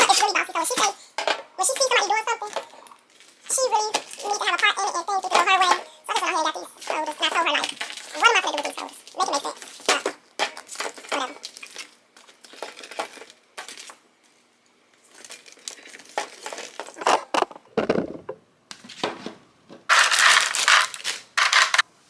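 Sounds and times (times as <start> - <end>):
plastic packaging crinkling: 0.0 - 17.6, 19.9 - 21.8.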